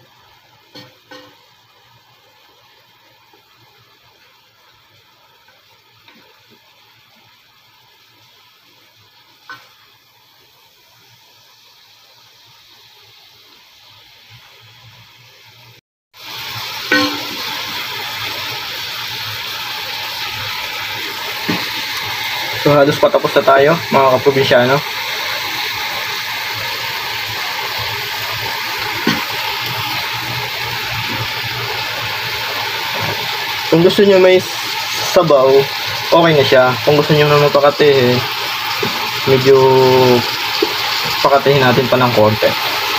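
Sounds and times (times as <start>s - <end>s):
fish sizzling in a pan: 0.0s - 42.9s.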